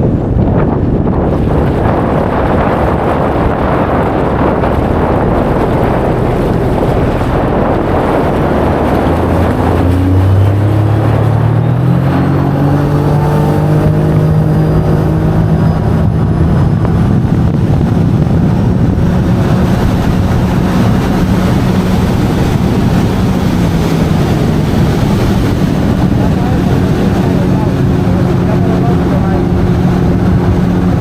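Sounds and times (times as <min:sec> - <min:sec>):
constant rushing noise: 0:00.0 - 0:31.0
jet ski engine running: 0:00.0 - 0:31.0.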